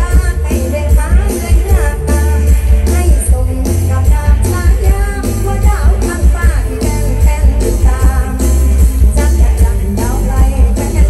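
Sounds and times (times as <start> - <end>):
band music over sound system: 0.0 - 11.0.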